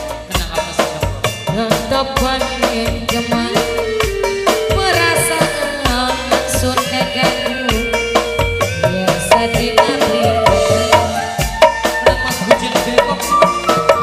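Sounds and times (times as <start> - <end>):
bending melody line: 0.0 - 14.0
hand drums in a busy rhythm: 0.0 - 14.0.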